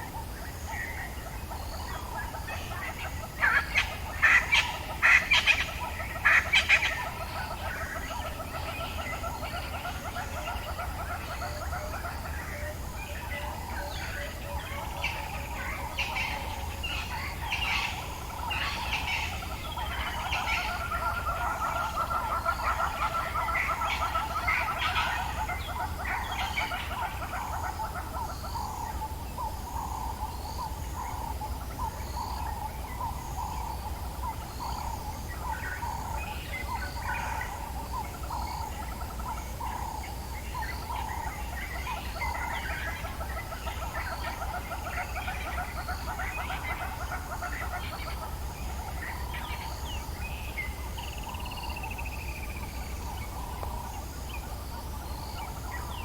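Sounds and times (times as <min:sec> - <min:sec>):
birds calling: 0:00.0 - 0:56.0
faint pulsing insects: 0:00.0 - 0:56.0.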